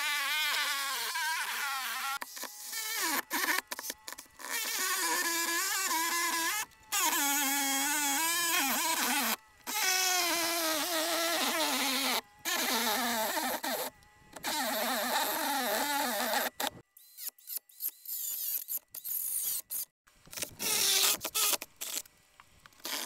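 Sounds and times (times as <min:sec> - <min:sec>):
circular saw cutting wood: 0:00.0 - 0:22.0.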